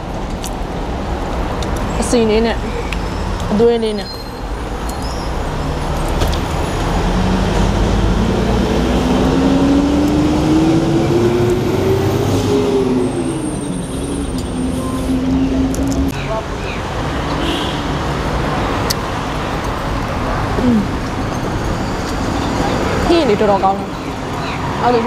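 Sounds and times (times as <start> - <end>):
bus engine pulling away: 0.0 - 25.0
street traffic: 0.0 - 25.0.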